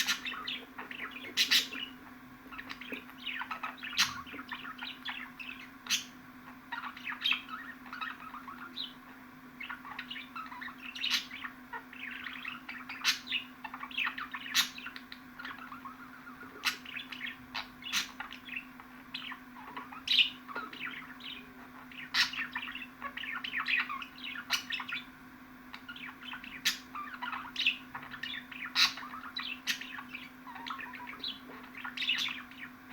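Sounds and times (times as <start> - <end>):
budgerigars chattering and warbling: 0.0 - 32.9
steady low hum: 0.0 - 32.9.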